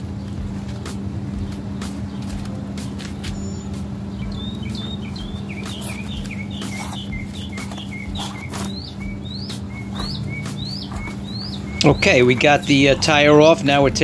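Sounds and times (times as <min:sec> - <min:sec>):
steady low hum: 0:00.0 - 0:14.0
bird chirping: 0:01.4 - 0:14.0.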